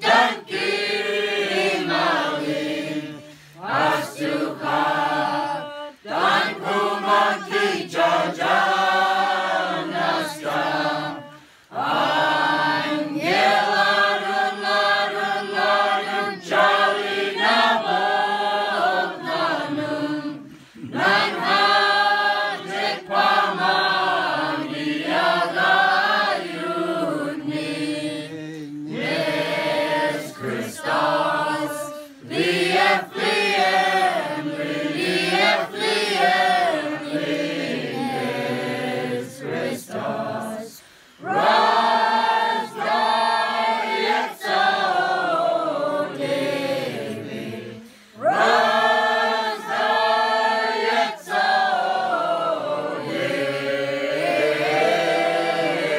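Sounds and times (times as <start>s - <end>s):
group singing a carol unaccompanied: 0.0s - 55.9s.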